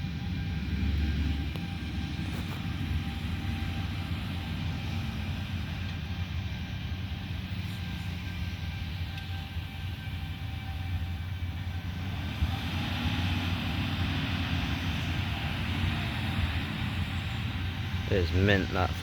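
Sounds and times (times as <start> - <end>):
farm machinery engine drone: 0.0 - 19.0.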